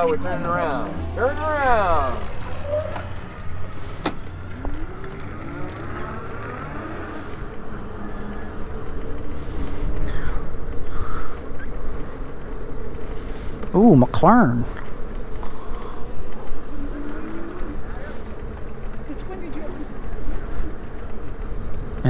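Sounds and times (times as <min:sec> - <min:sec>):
faint rising whine: 0:00.0 - 0:19.0
passing cars: 0:00.0 - 0:22.0.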